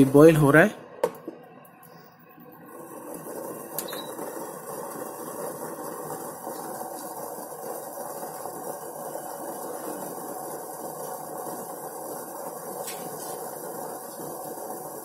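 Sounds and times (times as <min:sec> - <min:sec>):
water boiling in a saucepan: 0:02.4 - 0:15.0.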